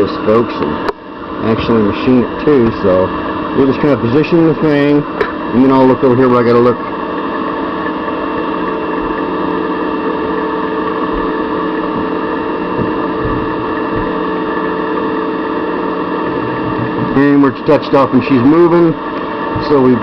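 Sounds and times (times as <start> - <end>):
small machine tool humming: 0.0 - 20.0.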